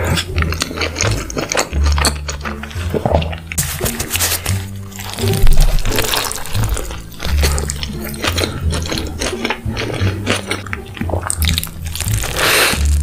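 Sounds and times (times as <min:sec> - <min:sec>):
chewing mouth clicks and smacks: 0:00.0 - 0:03.6, 0:05.1 - 0:12.5
background music with bass: 0:00.0 - 0:13.0.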